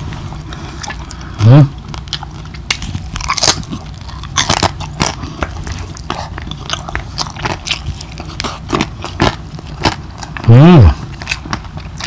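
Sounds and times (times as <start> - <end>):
crunchy chewing: 0.0 - 12.0.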